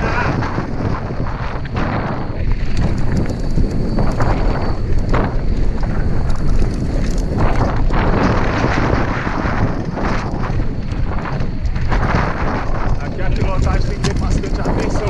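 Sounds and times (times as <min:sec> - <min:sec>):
wind buffeting microphone: 0:00.0 - 0:15.0
sharp clicks and rattles: 0:01.1 - 0:15.0.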